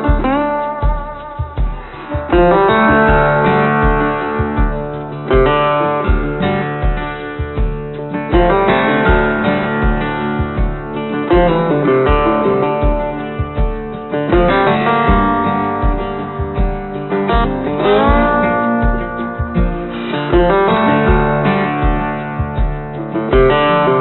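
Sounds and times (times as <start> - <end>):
strummed acoustic guitar music: 0.0 - 24.0.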